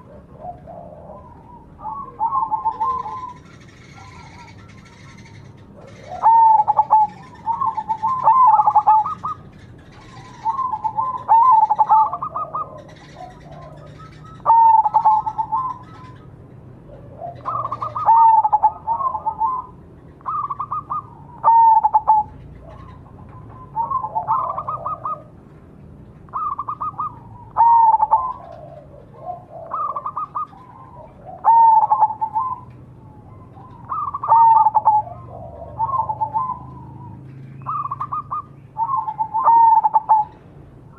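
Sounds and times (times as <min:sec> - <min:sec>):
dove cooing: 0:00.0 - 0:25.5, 0:26.1 - 0:40.9.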